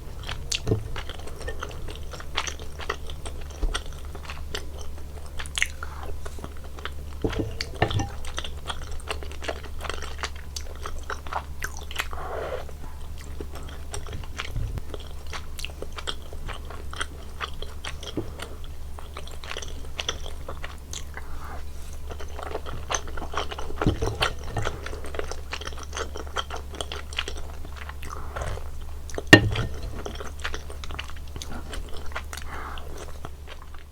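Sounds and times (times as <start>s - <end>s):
chewing with wet mouth clicks: 0.0s - 33.9s
low steady hum: 0.0s - 33.9s.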